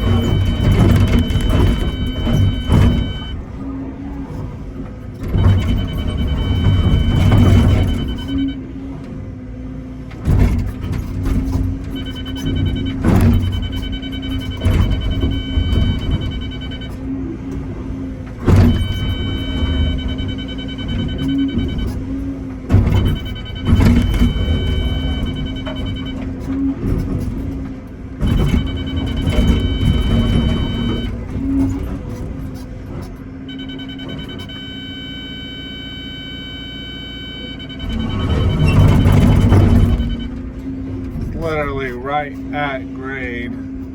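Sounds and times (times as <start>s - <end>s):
hydraulic whine: 0.0s - 9.4s, 10.1s - 43.9s
excavator diesel engine: 0.0s - 43.9s.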